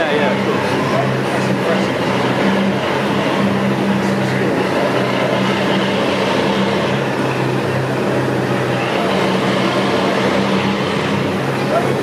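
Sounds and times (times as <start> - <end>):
boat diesel engines droning: 0.0 - 12.0.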